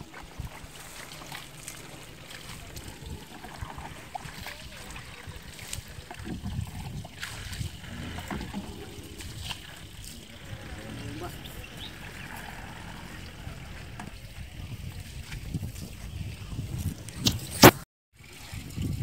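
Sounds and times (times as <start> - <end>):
low rumble: 0.0 - 17.2
water splashing and trickling: 0.0 - 19.0.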